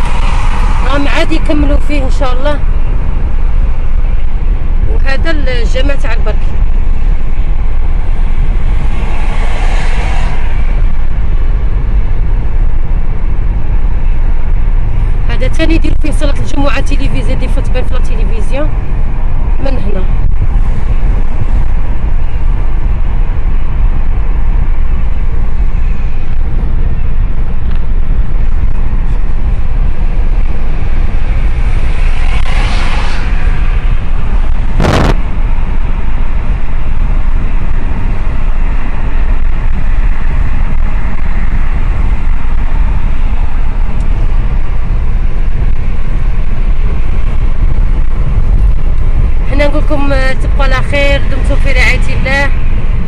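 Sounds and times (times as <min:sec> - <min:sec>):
road noise inside car: 0:00.0 - 0:53.0.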